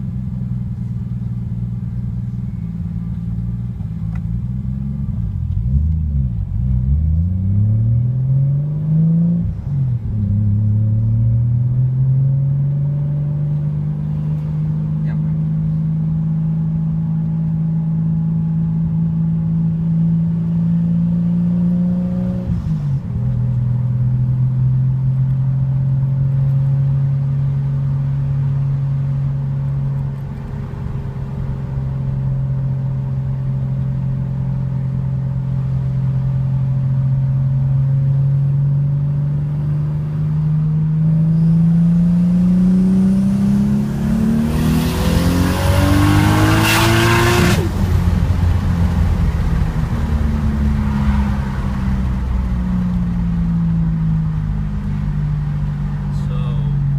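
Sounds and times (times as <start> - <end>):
car engine from inside cabin: 0.0 - 56.9.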